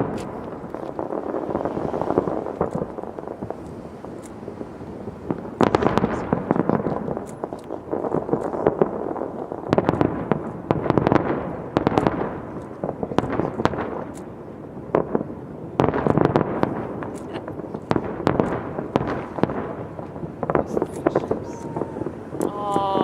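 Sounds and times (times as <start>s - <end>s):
fireworks bangs and pops: 0.0s - 23.0s
fireworks crackling: 0.0s - 23.0s.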